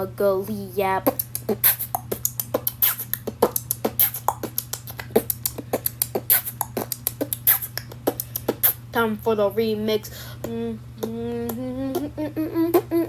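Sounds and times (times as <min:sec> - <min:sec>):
vocal beatboxing: 0:00.8 - 0:08.9, 0:10.4 - 0:13.0.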